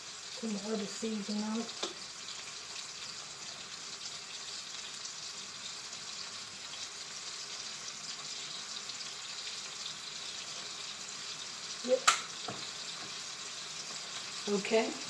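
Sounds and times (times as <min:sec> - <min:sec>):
burger patty sizzling in pan: 0:00.0 - 0:15.0.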